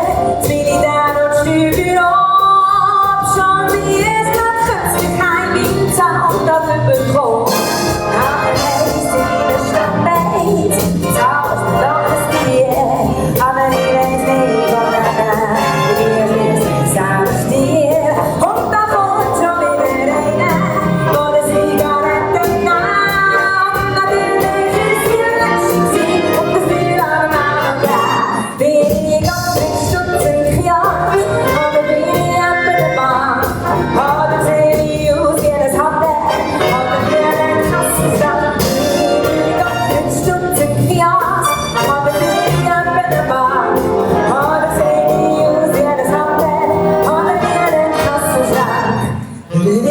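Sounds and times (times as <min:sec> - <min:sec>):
big band playing swing: 0:00.0 - 0:49.9
woman singing: 0:00.0 - 0:49.9.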